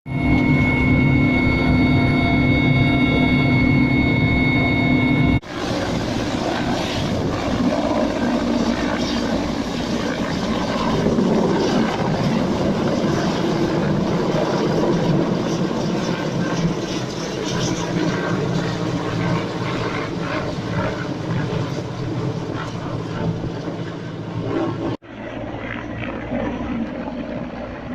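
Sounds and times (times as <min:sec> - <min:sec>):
helicopter flying: 0:00.1 - 0:27.9.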